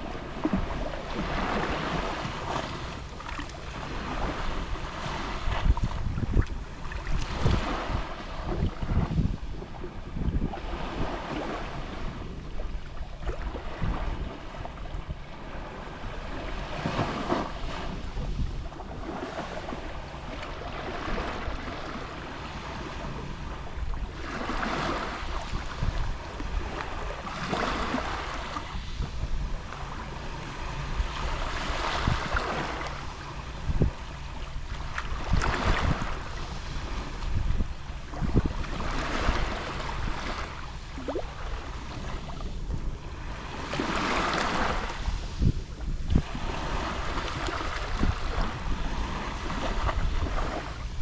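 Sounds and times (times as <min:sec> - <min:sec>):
waves lapping on shore: 0:00.0 - 0:51.0
wind rumble on microphone: 0:00.0 - 0:51.0.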